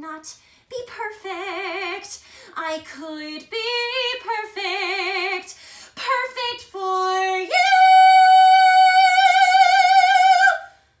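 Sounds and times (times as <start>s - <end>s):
woman singing unaccompanied: 0.0s - 10.8s.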